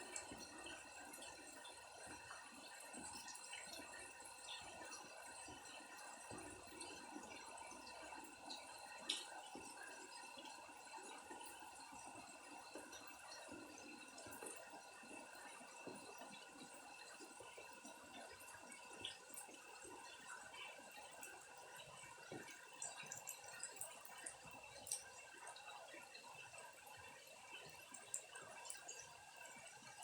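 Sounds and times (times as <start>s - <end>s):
faint rain falling: 0.0s - 30.0s
water drips: 0.0s - 30.0s.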